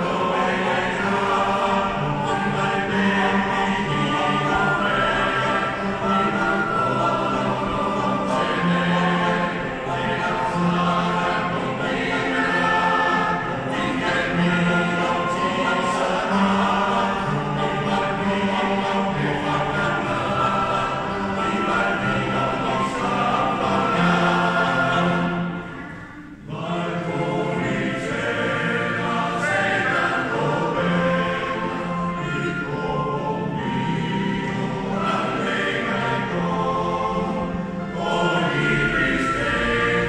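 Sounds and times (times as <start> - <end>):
male choir singing: 0.0 - 40.0.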